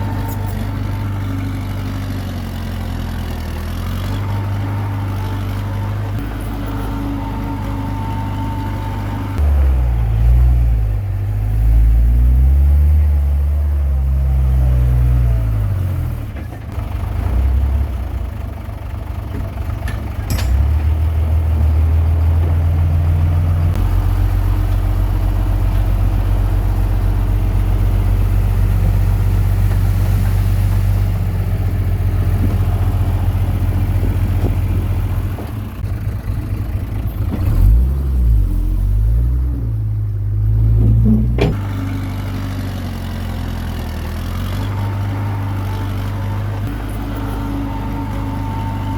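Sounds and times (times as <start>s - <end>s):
bulldozer diesel engine: 0.0s - 48.9s.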